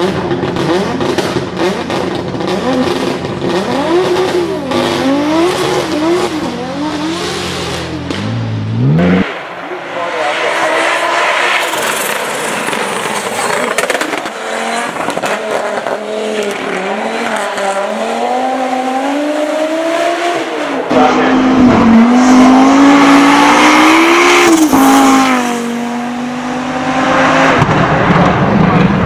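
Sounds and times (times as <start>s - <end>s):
car engine revving hard: 0.0s - 29.0s.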